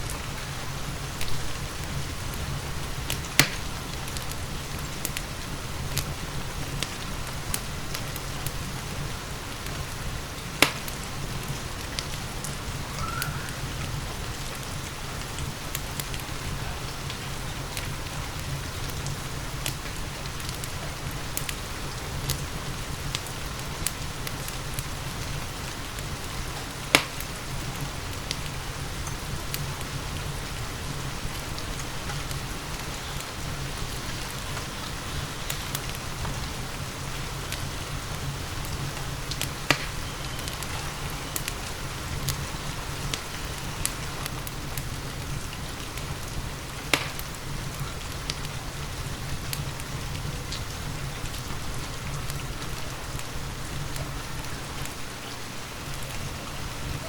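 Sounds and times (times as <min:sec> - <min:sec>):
fire pops: 0:00.0 - 0:48.6
steady rain: 0:00.0 - 0:57.0
wood fire crackling: 0:00.0 - 0:57.0.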